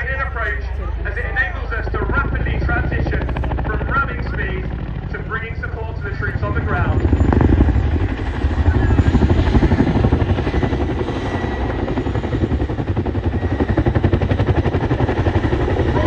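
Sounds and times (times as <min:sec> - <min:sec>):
helicopter rotor chopping: 0:00.0 - 0:16.0.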